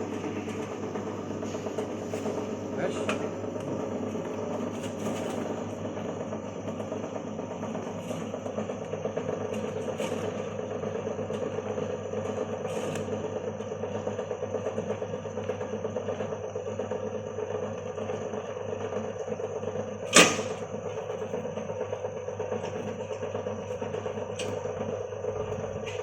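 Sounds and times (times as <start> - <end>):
shredder machine running: 0.0 - 26.0.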